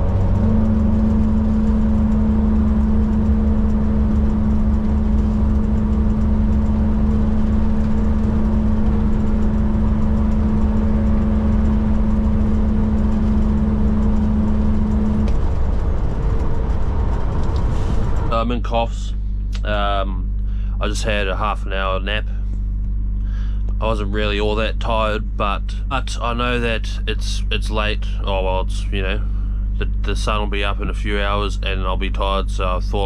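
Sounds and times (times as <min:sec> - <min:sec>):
truck diesel engine rumble: 0:00.0 - 0:33.0.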